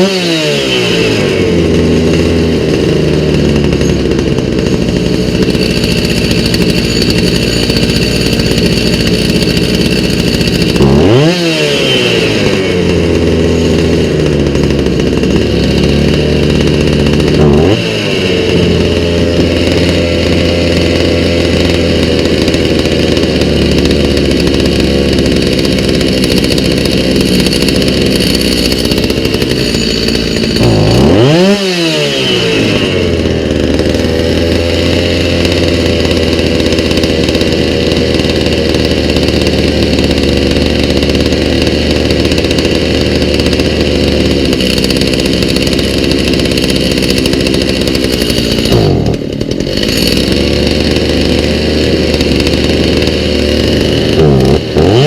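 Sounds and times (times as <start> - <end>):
chainsaw engine idling and revving: 0.0 - 55.0.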